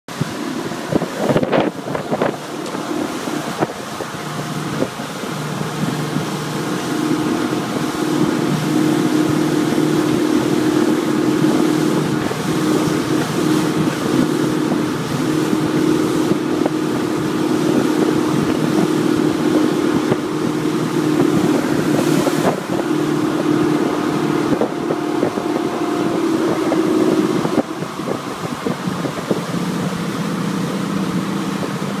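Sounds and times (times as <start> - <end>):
motorboat engine running: 0.1 - 32.0
water rushing in wake: 0.1 - 32.0
wind buffeting microphone: 0.1 - 32.0.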